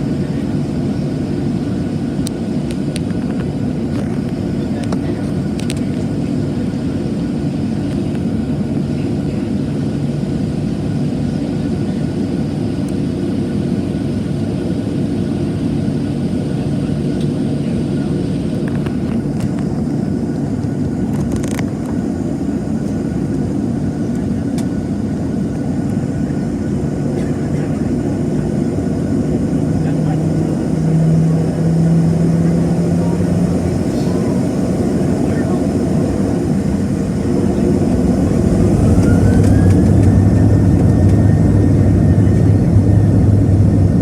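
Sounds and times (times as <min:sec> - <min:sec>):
jet engines rumbling: 0:00.0 - 0:44.0.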